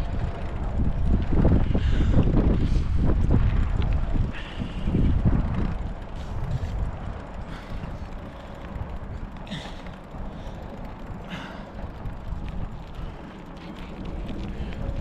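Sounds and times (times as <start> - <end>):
bicycle clicks and creaks: 0.0 - 15.0
bicycle tyres and wind rumble: 0.0 - 15.0.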